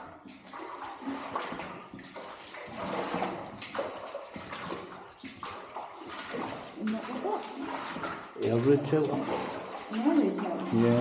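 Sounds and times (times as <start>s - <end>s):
water sloshing underfoot: 0.0s - 11.0s.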